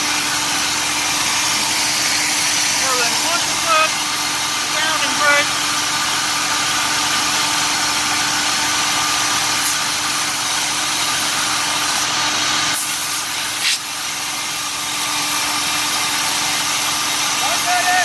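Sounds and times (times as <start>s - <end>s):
fan whooshing: 0.0s - 14.6s
engine running at fast idle: 0.0s - 18.0s.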